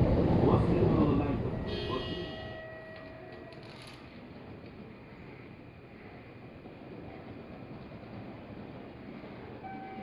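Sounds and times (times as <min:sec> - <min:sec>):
electric train slowing: 0:00.0 - 0:10.0.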